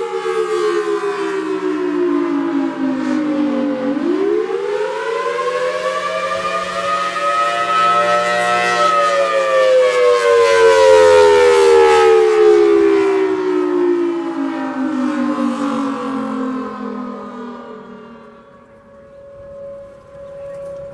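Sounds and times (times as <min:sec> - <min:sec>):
outdoor warning siren: 0:00.0 - 0:20.9.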